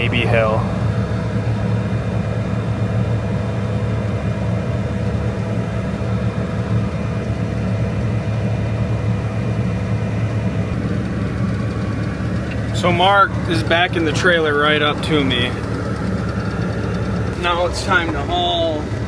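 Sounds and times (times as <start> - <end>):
heavy engine idling: 0.0 - 19.0.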